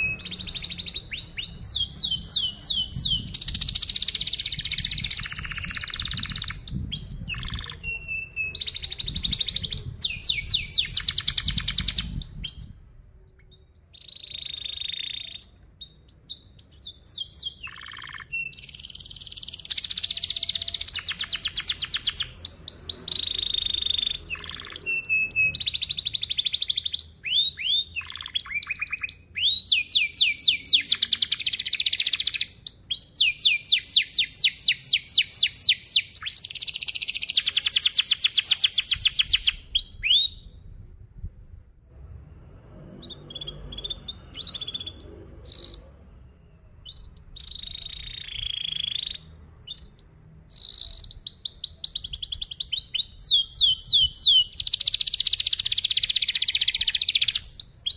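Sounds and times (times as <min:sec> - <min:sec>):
canary singing trills and chirps: 0:00.0 - 0:40.7, 0:43.0 - 0:57.9.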